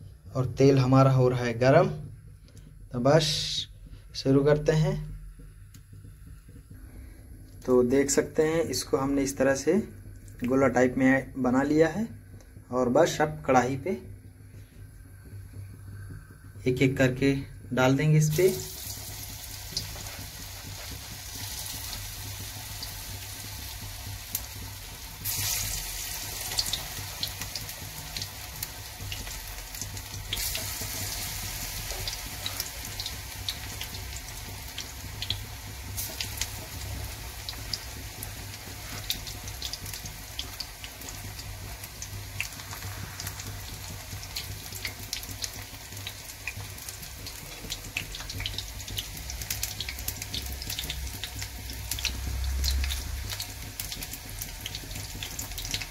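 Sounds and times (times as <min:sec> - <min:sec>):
deep-frying sizzle with crackling pops: 0:00.0 - 0:55.9.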